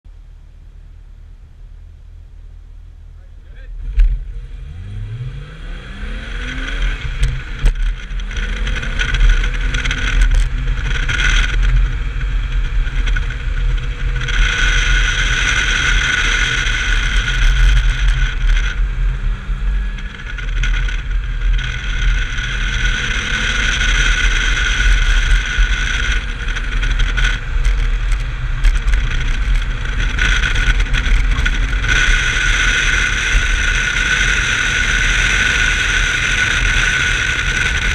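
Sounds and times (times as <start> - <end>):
car engine revving: 0.1 - 37.9.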